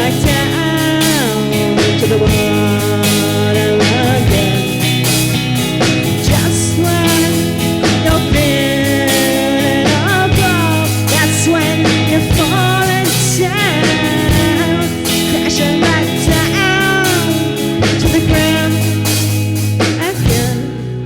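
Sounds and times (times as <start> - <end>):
instrumental psychedelic rock: 0.0 - 21.0.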